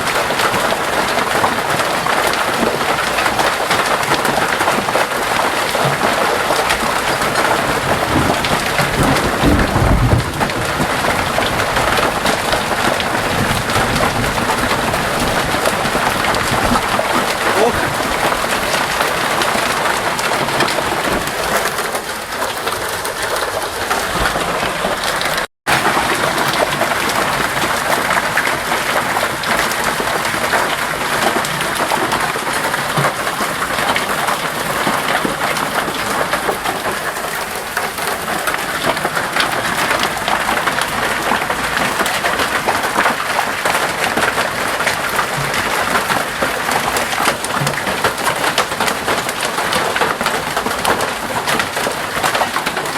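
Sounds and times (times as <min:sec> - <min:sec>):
hailstones falling on hard surfaces: 0:00.0 - 0:52.9.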